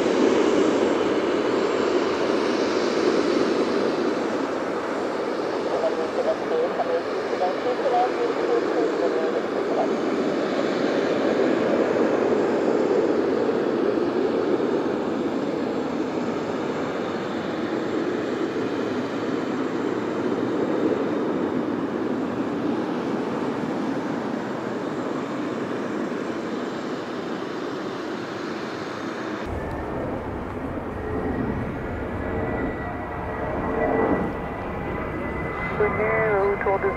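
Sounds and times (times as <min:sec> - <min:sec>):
jet engine roar: 0:00.0 - 0:36.9.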